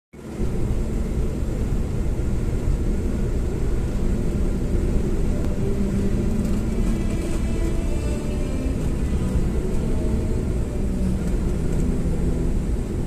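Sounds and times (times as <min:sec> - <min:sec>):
truck engine and road rumble: 0:00.2 - 0:13.0.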